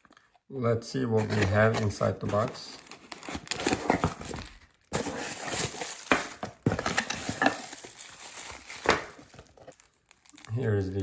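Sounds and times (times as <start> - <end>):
packaging rustling and crinkling: 1.2 - 11.0.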